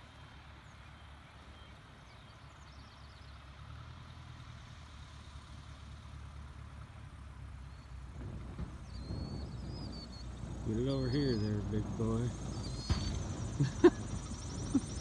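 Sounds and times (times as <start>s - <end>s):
distant plane engine drone: 0.0s - 15.0s.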